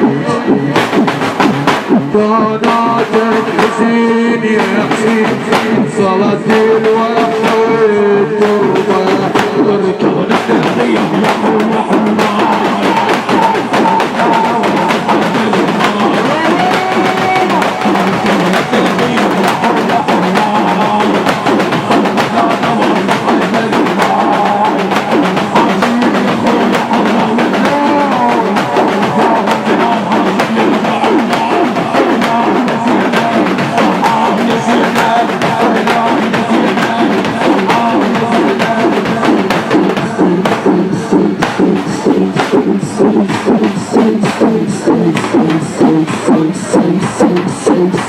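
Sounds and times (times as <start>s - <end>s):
steady drum beat: 0.0s - 48.0s
voices chanting: 2.2s - 48.0s.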